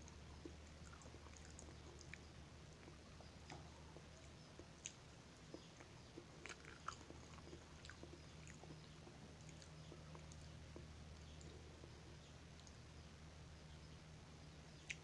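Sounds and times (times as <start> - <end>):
soft chewing mouth clicks: 0.0 - 12.9, 14.8 - 15.0
steady low hum: 0.0 - 15.0.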